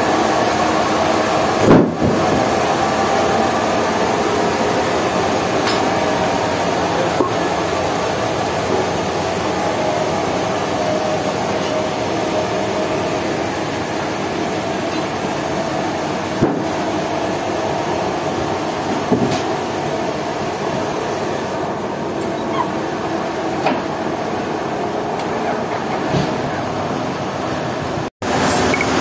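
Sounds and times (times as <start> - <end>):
sawmill machinery drone: 0.0 - 29.0.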